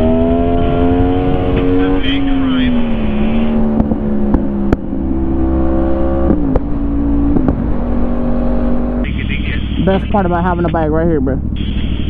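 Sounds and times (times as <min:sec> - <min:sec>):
wind rumbling on microphone: 0:00.0 - 0:10.1
motorcycle engine running: 0:00.0 - 0:12.0.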